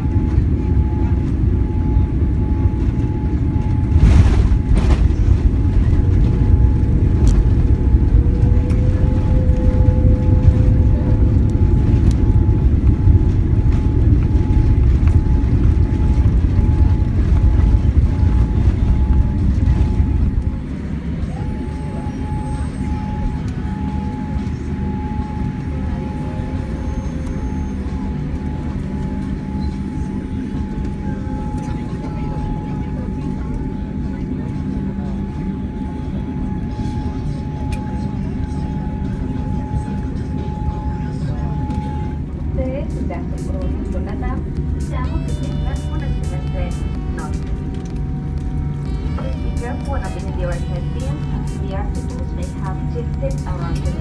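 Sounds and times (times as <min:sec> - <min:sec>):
low rumble of aircraft rollout: 0:00.0 - 0:54.0.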